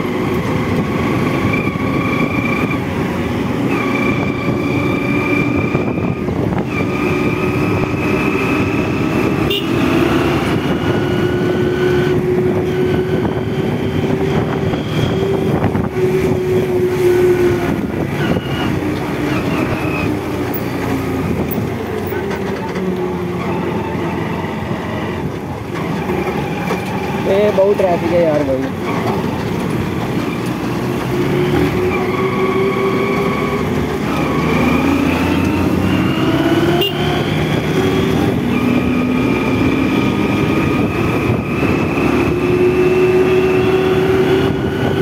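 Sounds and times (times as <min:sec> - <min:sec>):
motorcycle engine drone: 0:00.0 - 0:45.0
wind noise on microphone: 0:00.0 - 0:45.0.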